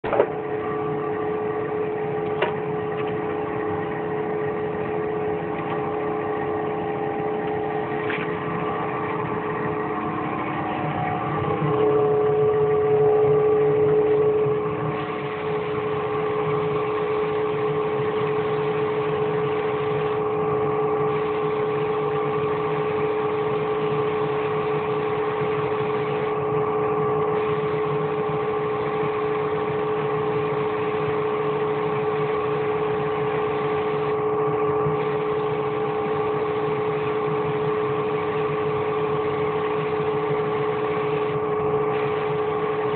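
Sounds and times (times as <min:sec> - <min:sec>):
machine humming: 0:00.0 - 0:42.9.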